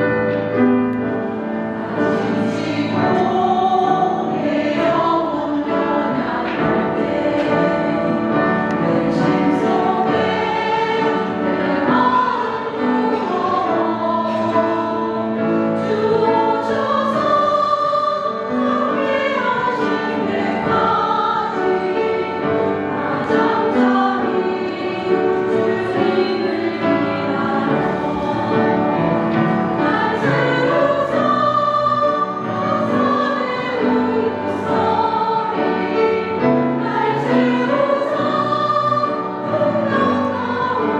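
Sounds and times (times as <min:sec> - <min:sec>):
women singing in harmony: 0:01.7 - 0:40.9.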